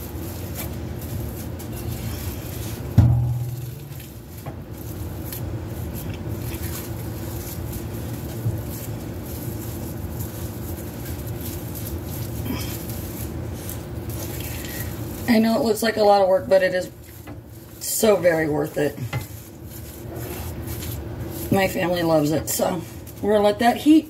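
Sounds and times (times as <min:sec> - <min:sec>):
spatula squishing and scraping: 0:00.0 - 0:24.0
steady low hum: 0:00.0 - 0:24.0.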